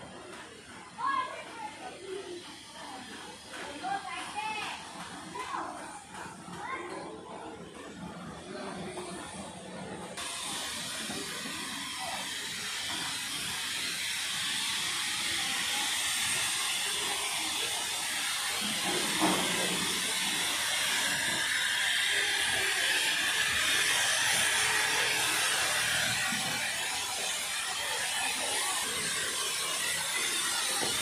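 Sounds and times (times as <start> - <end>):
steam locomotive hissing steam: 0.1 - 6.0, 10.2 - 31.0.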